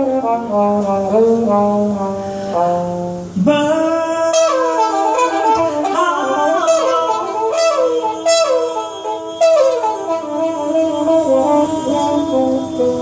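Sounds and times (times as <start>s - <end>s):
held low note: 0.0s - 13.0s
jazz trumpet: 0.0s - 13.0s.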